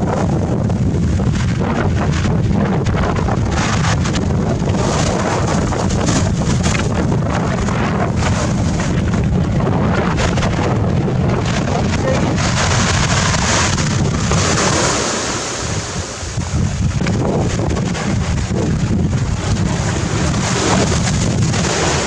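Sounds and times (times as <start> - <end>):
waves washing over pebbles: 0.0 - 22.0
wind buffeting microphone: 0.0 - 22.0.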